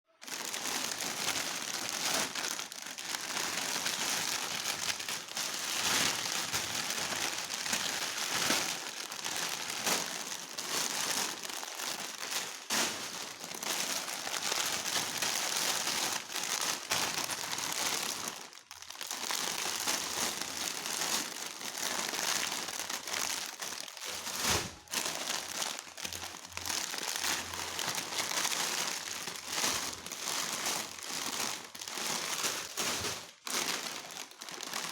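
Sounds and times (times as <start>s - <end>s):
plastic packets crinkling: 0.1s - 34.9s.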